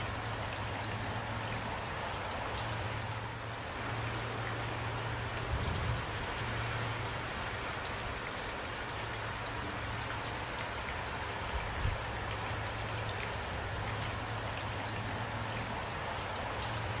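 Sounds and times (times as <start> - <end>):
raindrops ticking: 0.0 - 17.0
steady rain falling: 0.0 - 17.0.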